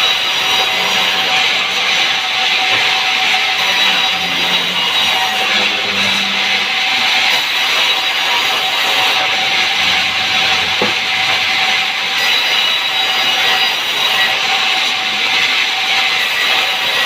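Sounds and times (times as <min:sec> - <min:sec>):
constant machine tone: 0:00.0 - 0:17.0
saw blade rasping through log: 0:00.0 - 0:17.0.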